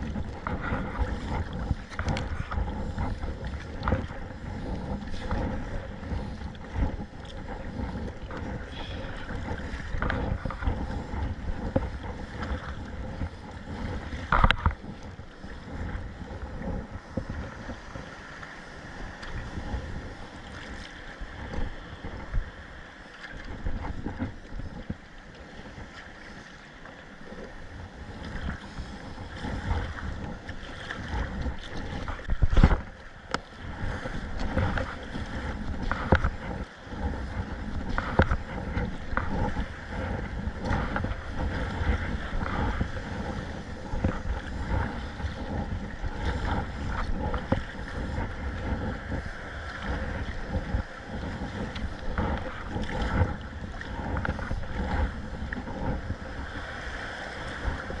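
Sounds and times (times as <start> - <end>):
water splashing around a kayak: 0.0 - 58.0
wind buffeting microphone: 0.0 - 58.0.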